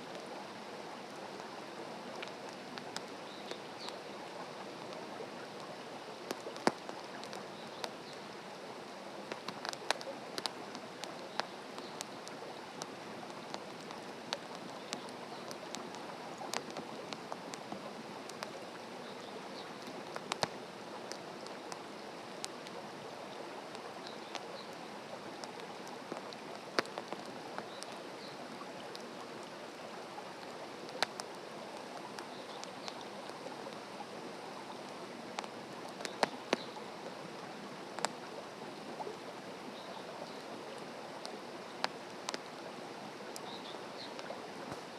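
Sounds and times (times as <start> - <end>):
campfire crackling and popping: 1.4 - 29.6, 30.3 - 39.1, 40.6 - 42.6.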